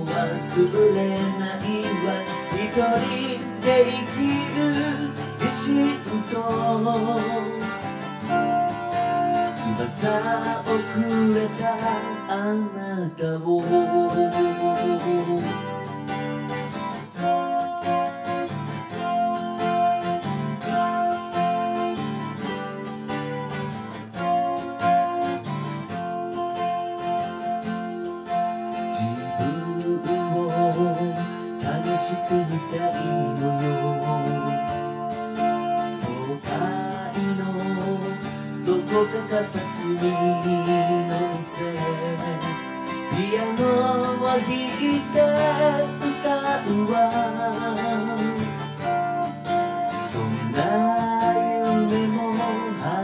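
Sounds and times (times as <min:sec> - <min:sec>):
acoustic guitar strumming chords: 0:00.0 - 0:53.0.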